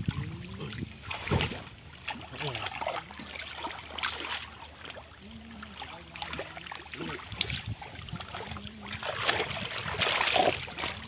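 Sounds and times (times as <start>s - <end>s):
hands splashing in muddy water: 0.7s - 11.0s.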